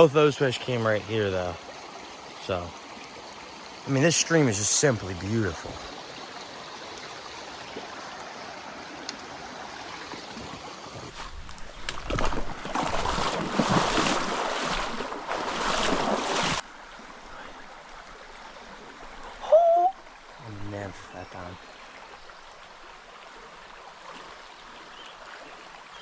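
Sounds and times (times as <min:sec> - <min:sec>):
mountain stream flowing: 0:00.0 - 0:11.2, 0:12.2 - 0:26.0.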